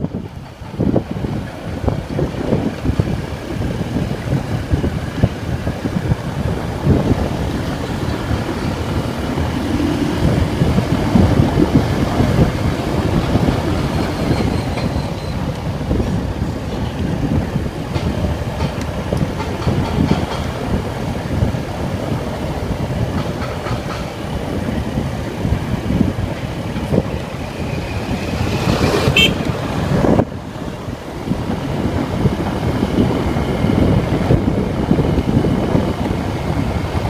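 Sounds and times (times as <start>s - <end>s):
road and wind noise: 0.0s - 37.0s
wind buffeting microphone: 0.0s - 37.0s.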